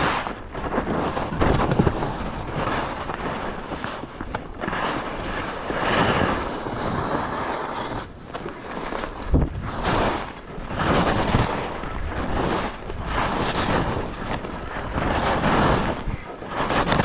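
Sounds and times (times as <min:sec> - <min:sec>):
skis scraping over snow: 0:00.0 - 0:17.0
wind on microphone: 0:00.0 - 0:17.0.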